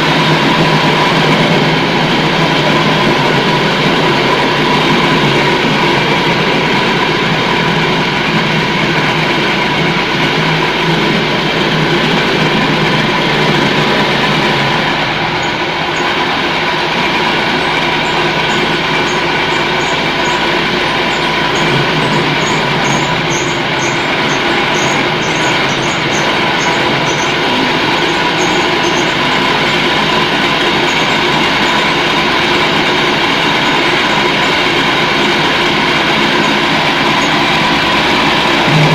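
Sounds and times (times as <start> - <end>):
meat grinding machine whining: 0.0 - 38.9.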